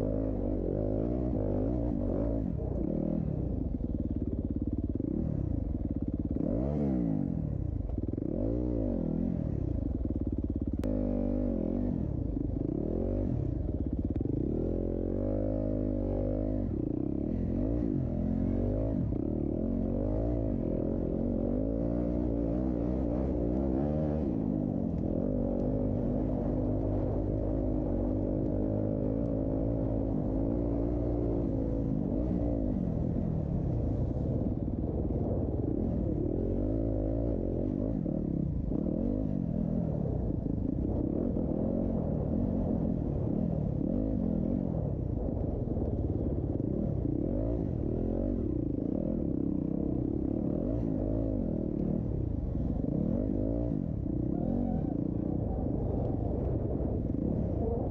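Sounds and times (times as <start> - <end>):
dirt bike engines revving: 10.8 - 57.9.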